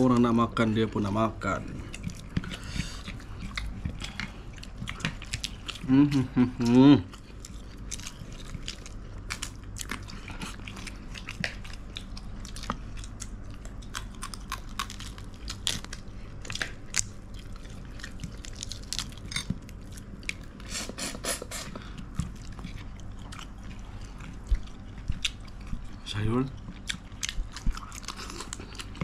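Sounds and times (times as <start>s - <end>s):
chewing and crunching: 0.0s - 29.0s
low steady hum: 0.0s - 29.0s.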